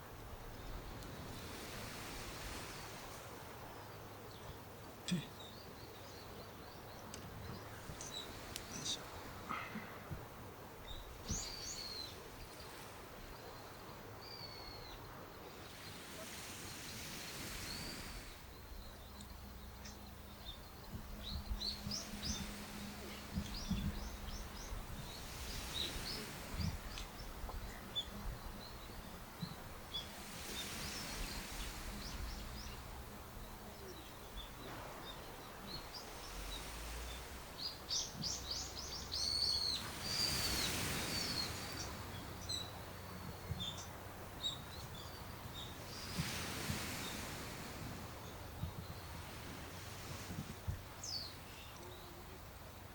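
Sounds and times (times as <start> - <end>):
steady outdoor hiss: 0.0 - 52.9
small birds chirping: 2.6 - 16.0, 16.7 - 47.2, 50.9 - 52.4.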